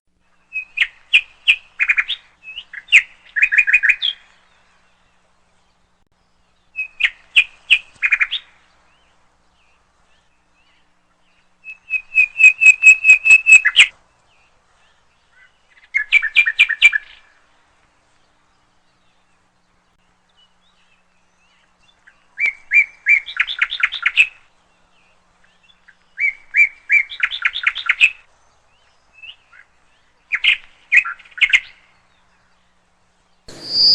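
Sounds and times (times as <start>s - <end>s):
songbird singing rapid chirps: 0.1s - 33.9s.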